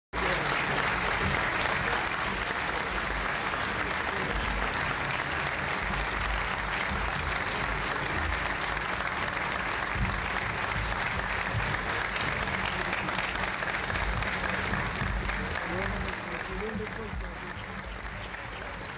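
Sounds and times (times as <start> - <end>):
audience applauding: 0.2 - 18.9.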